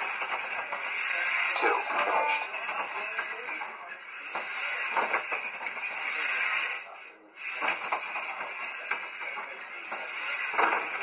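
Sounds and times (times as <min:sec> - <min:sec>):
slot cars running on track: 0:00.1 - 0:11.0.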